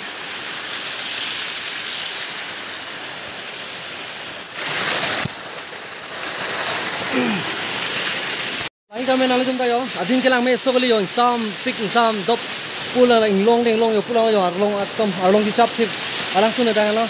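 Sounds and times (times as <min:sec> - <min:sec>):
waterfall splashing over rocks: 0:00.0 - 0:17.0.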